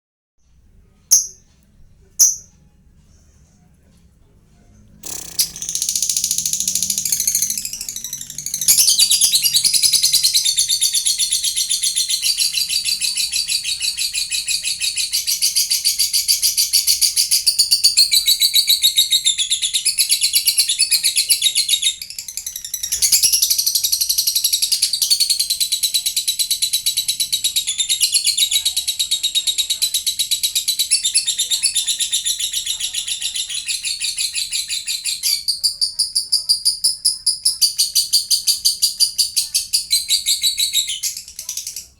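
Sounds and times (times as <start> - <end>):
bird chattering high chirps: 1.1 - 1.4, 2.2 - 2.5, 5.0 - 41.9.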